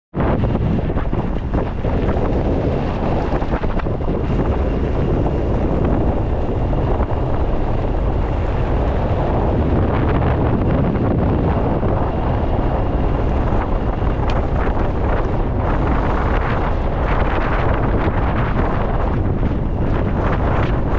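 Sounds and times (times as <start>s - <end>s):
wind buffeting microphone: 0.1s - 20.9s.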